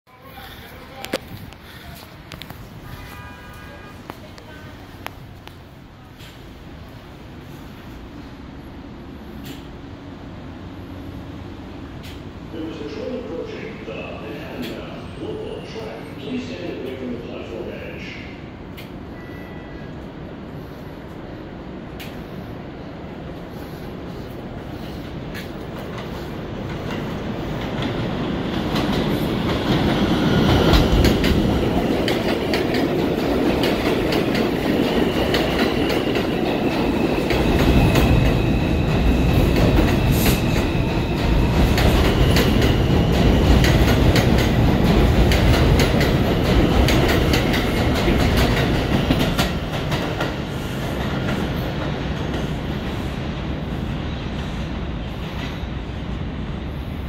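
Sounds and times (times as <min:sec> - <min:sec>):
high train whine: 0:00.1 - 0:57.0
subway train rumbling past: 0:00.1 - 0:57.0.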